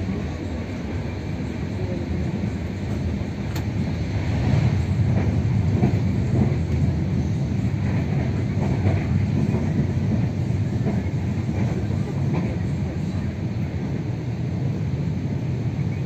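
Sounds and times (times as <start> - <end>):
low rumble of train wheels: 0.0 - 16.0.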